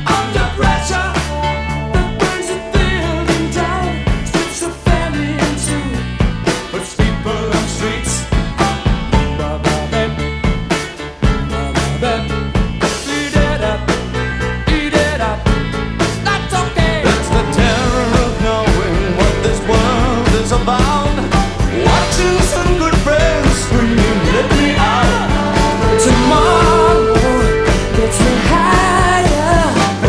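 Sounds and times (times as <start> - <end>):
rock music with singing: 0.0 - 30.0.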